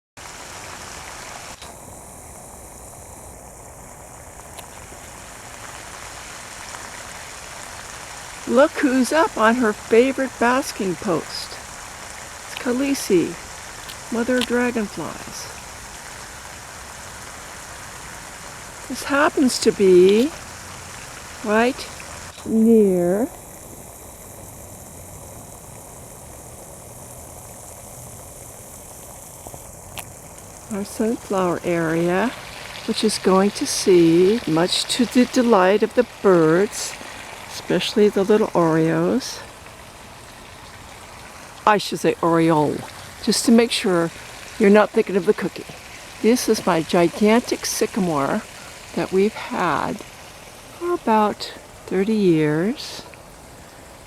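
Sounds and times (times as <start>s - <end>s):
high hiss: 0.2s - 54.0s
rushing outdoor background noise: 0.2s - 54.0s.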